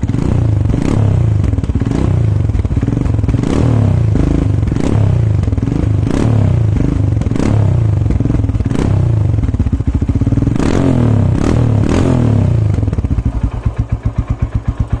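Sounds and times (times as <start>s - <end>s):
motorcycle engine idling: 0.0s - 15.0s
motorcycle engine revving: 0.0s - 15.0s.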